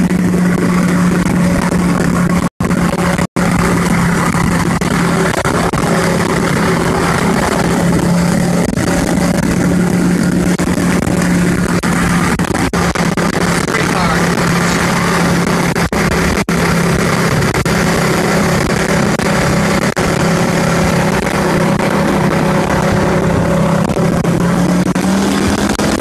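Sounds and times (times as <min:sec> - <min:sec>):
car engine droning: 0:00.0 - 0:26.0
wind and road noise: 0:00.0 - 0:26.0.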